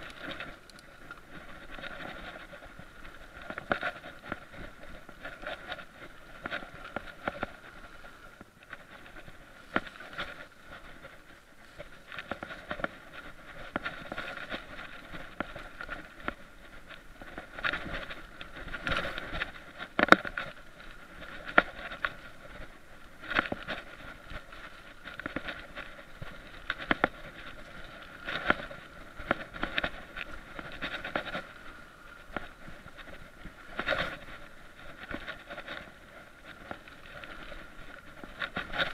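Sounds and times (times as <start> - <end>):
bike knocking and rattling: 0.0 - 38.9
bike tyres rolling on dirt: 0.0 - 38.9.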